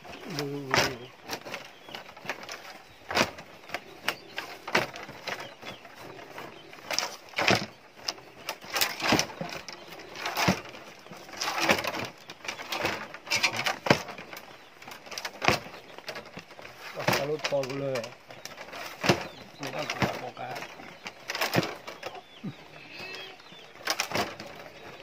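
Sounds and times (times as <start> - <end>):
bamboo strips rustling and creaking: 0.0 - 25.0.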